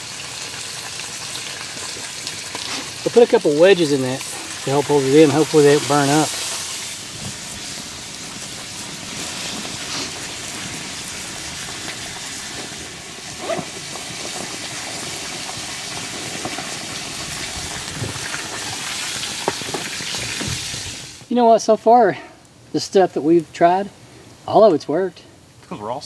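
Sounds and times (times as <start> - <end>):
fire crackling and hissing: 0.0 - 26.0.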